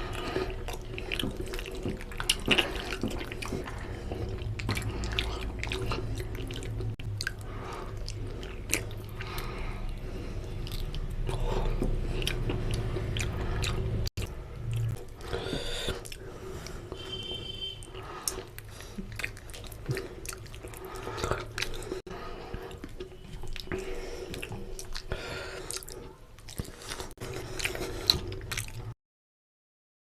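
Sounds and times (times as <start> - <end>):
chewing mouth sounds: 0.0 - 29.0.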